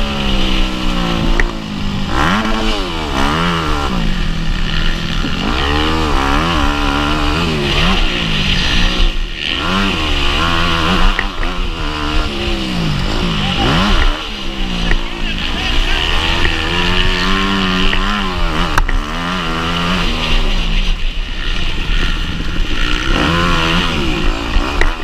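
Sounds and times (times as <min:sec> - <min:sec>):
motocross bike engine revving: 0:00.0 - 0:25.0.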